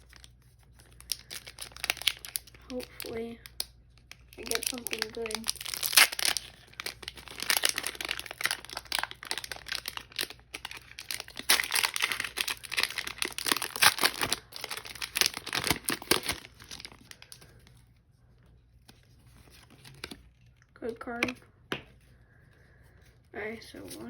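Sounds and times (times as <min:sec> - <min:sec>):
foil wrapper crinkling and tearing: 0:00.0 - 0:17.8, 0:18.8 - 0:20.6.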